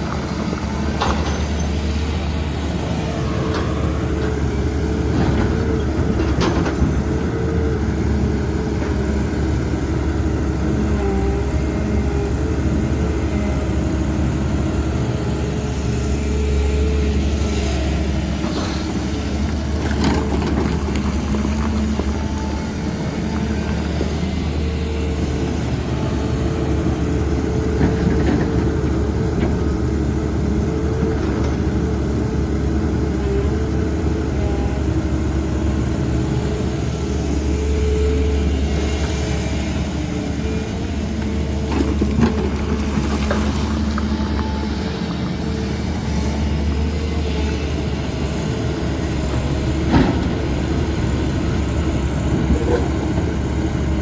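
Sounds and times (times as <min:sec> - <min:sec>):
diesel excavator engine: 0:00.0 - 0:54.0.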